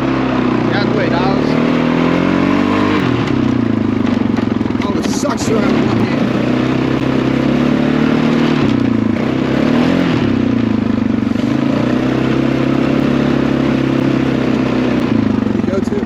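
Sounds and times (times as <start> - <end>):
small vehicle engine running: 0.0 - 16.0.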